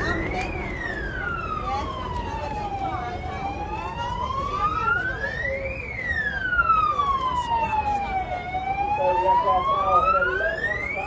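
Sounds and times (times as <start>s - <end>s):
siren wailing: 0.0s - 11.0s.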